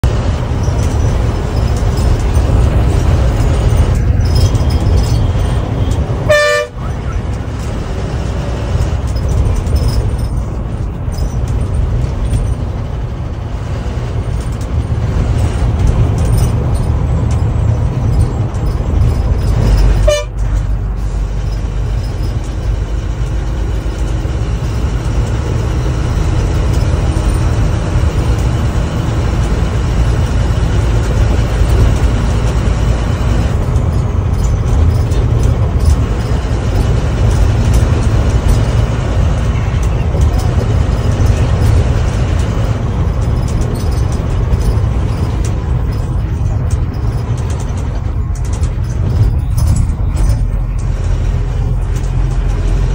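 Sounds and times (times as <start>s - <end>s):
vehicle engine and road rumble: 0.0s - 52.9s.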